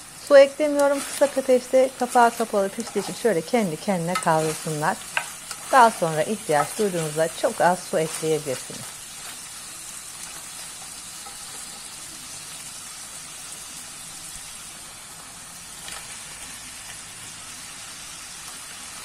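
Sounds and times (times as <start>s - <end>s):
livers sizzling in a frying pan: 0.0s - 19.0s.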